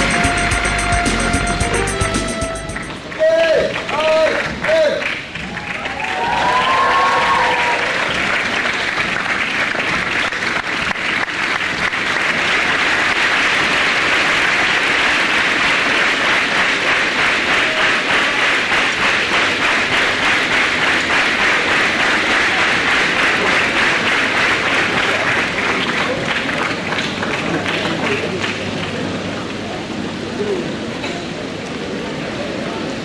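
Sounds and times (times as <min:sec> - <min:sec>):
large audience applauding: 0:00.0 - 0:29.2.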